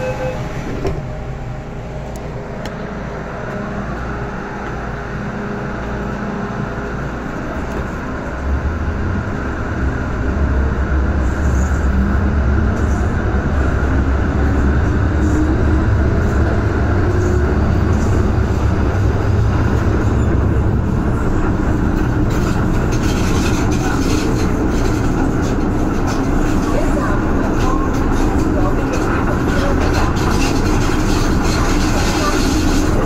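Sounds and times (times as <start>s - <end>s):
train running noise: 0.0s - 33.0s.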